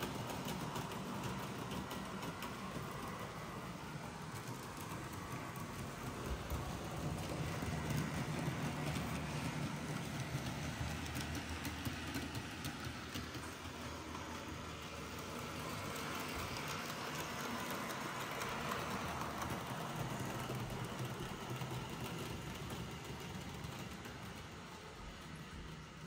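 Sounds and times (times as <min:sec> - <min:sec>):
model train motor hum: 0:00.0 - 0:26.0
small wheels rattling on track: 0:00.0 - 0:26.0.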